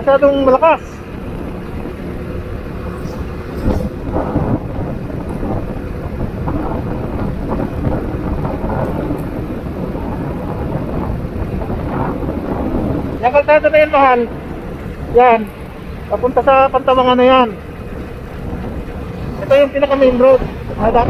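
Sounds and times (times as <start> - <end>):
motorcycle engine: 0.0 - 21.0
road noise: 0.0 - 21.0
wind buffeting microphone: 0.0 - 21.0.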